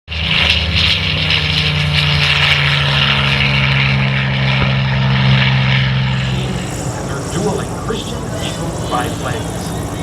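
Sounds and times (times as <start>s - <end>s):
propeller airplane engine drone: 0.1s - 10.0s.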